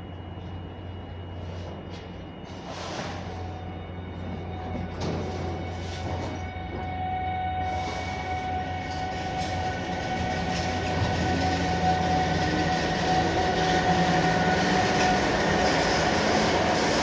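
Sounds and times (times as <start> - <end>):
locomotive whine: 0.0 - 17.0
train wheels rumbling on rail: 1.4 - 17.0.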